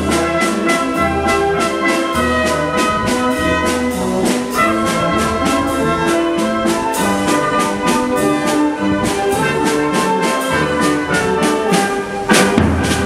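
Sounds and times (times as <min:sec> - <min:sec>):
bass drum and snare beat: 0:00.0 - 0:13.0
brass playing march tune: 0:00.0 - 0:13.0.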